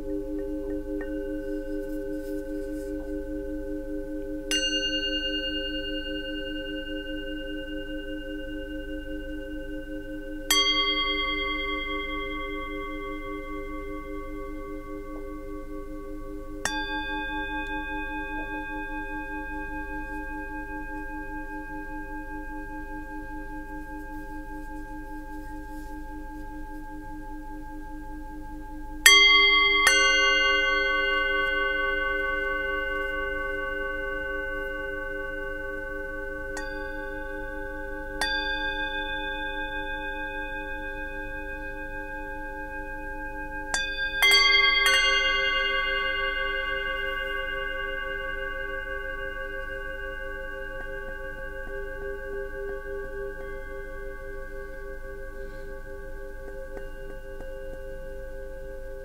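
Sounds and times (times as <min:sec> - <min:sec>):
singing bowls ringing: 0:00.0 - 0:59.0.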